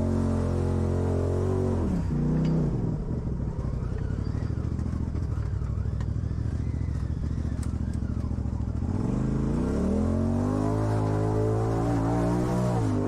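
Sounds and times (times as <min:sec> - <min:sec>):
off-road vehicle engine pulsing: 0:00.0 - 0:13.0.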